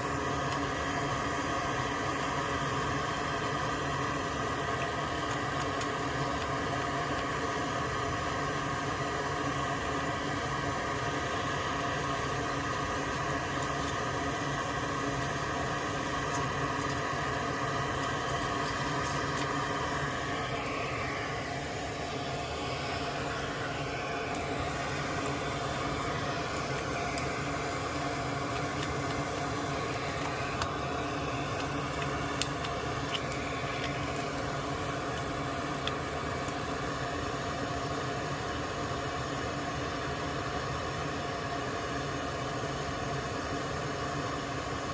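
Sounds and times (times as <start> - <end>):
high-pitched whine: 0.0 - 38.1
electric fan whirring hum: 0.0 - 44.9.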